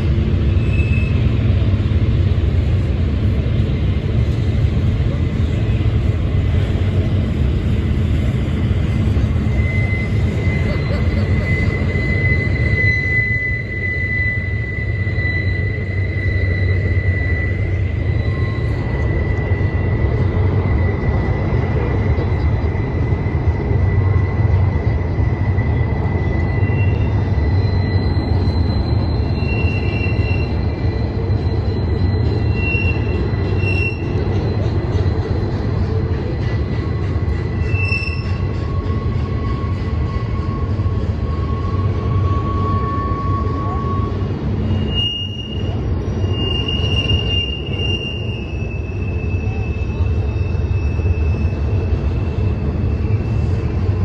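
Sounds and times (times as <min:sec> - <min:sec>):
high-pitched wheel squeals: 0:00.0 - 0:54.0
train wheels rumbling on rail: 0:00.0 - 0:54.0.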